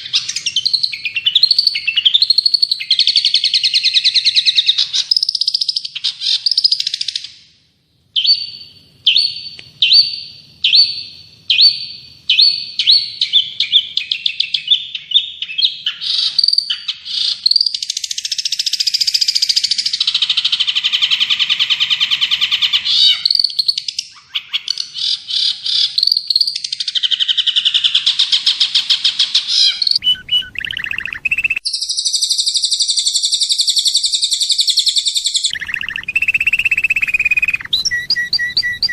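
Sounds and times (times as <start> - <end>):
songbird chirps and trills: 0.0 - 7.5, 8.1 - 38.9.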